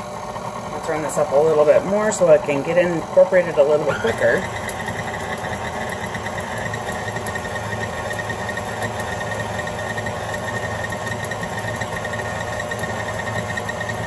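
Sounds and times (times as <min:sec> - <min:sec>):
stand mixer running: 0:00.0 - 0:14.0.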